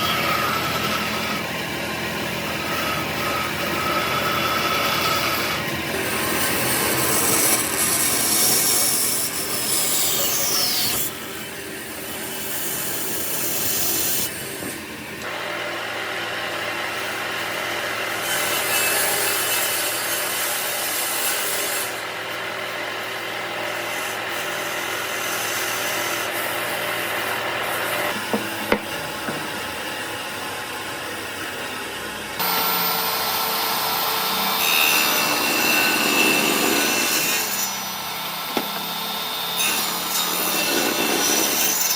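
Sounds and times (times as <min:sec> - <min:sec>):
wood being sawn: 0:00.0 - 0:31.8, 0:32.4 - 0:41.9.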